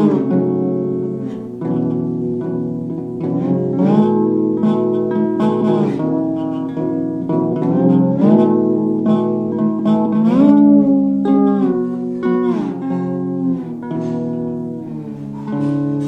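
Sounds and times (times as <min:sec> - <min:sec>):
lap steel guitar sliding: 0:00.0 - 0:16.0
plucked strings: 0:00.0 - 0:16.0.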